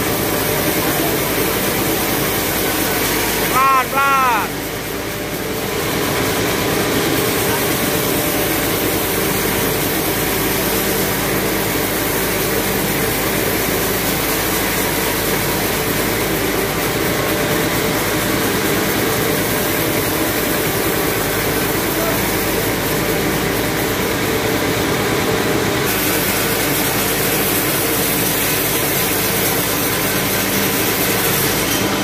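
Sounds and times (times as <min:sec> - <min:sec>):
band sawmill machine drone: 0:00.0 - 0:32.0.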